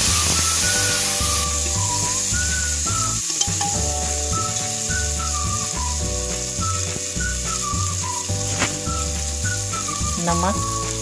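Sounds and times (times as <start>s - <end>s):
background music with whistle melody: 0.0s - 11.0s
vegetables sizzling in oil: 0.0s - 11.0s.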